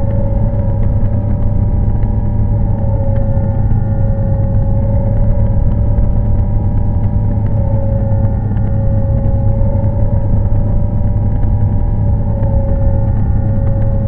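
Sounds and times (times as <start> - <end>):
loud low rumble: 0.0 - 14.0.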